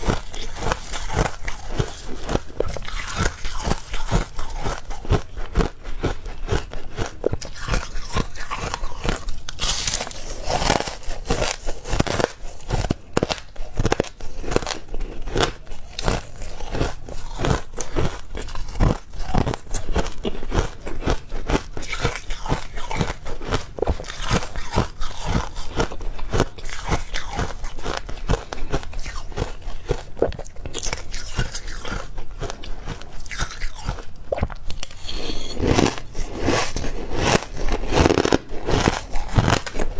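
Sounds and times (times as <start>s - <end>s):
ice being crunched and chewed: 0.0s - 39.9s.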